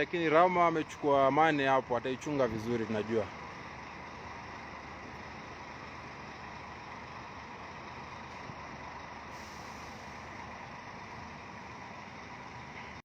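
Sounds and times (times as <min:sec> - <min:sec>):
bus engines idling: 0:00.0 - 0:13.0.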